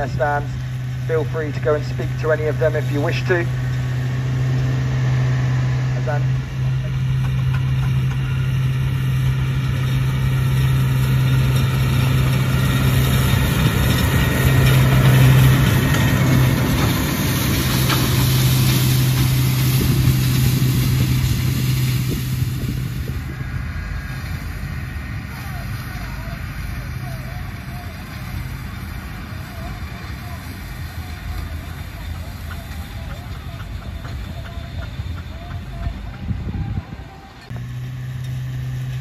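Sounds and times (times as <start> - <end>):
flail rotor hissing: 0.0 - 34.4
tractor diesel engine droning: 0.0 - 39.0.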